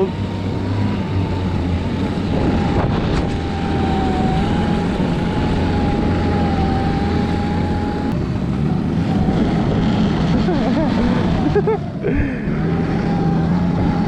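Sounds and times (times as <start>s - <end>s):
continuous rumbling noise: 0.0s - 14.0s
electric motor whine: 0.0s - 14.0s.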